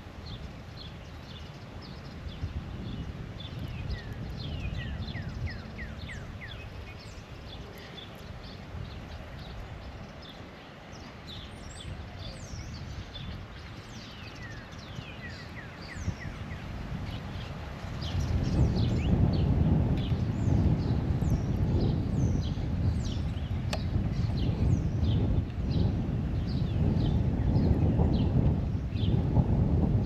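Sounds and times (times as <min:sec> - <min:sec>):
small birds chirping: 0:00.2 - 0:29.4.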